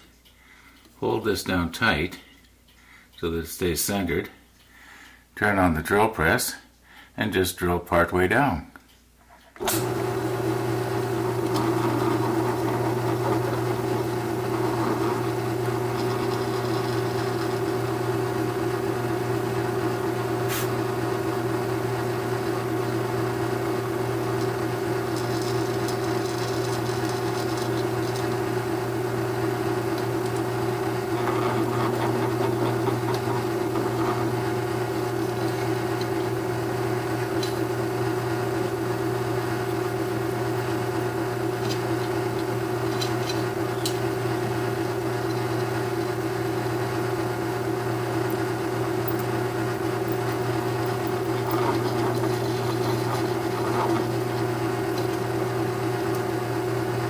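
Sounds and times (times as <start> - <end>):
drill press motor humming: 9.6 - 57.0.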